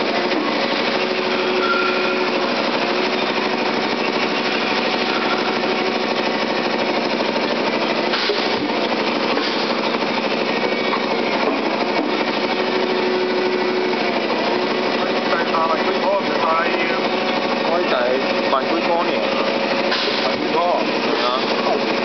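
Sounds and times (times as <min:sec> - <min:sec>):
machinery fast mechanical rattle: 0:00.0 - 0:22.0.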